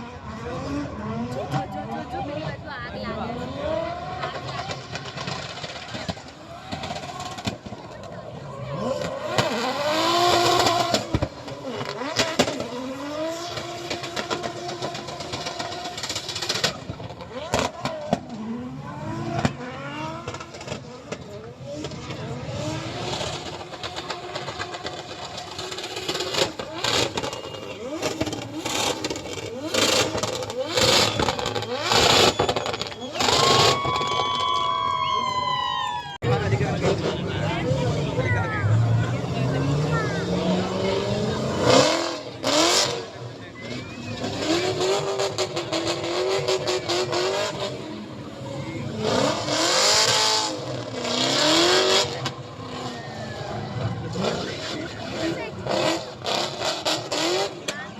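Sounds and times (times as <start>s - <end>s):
vehicle engines running: 0.0s - 57.9s.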